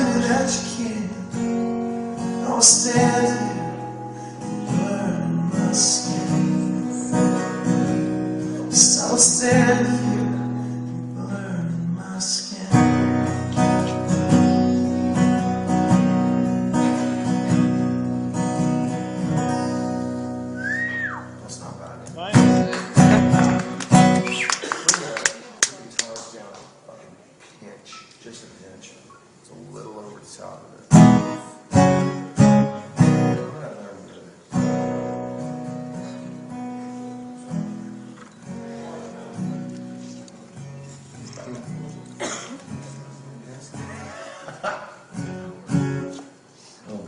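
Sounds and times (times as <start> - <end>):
acoustic guitar strumming: 0.0 - 24.7, 30.9 - 46.6.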